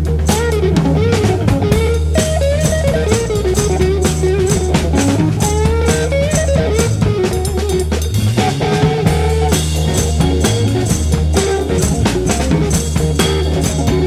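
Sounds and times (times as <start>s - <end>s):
bass: 0.0s - 14.0s
drum kit beat: 0.0s - 14.0s
guitar melody: 0.0s - 14.0s.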